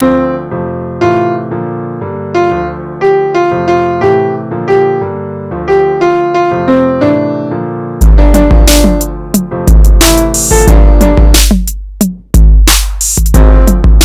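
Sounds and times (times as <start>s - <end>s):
keyboard melody: 0.0s - 14.0s.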